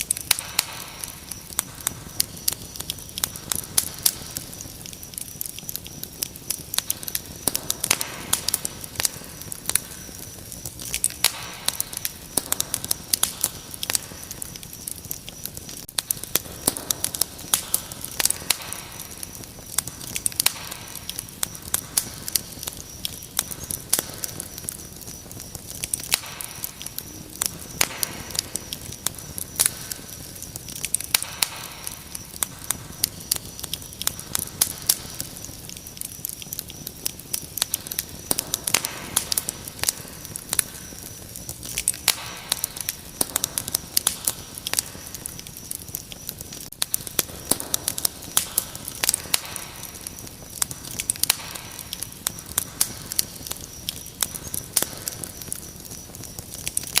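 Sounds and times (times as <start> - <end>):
wood fire crackling and popping: 0.0 - 57.0
cricket trill: 0.1 - 57.0.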